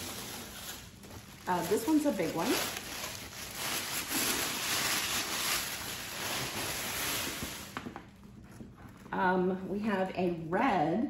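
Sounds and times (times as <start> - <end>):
tissue paper rustling: 0.0 - 9.0.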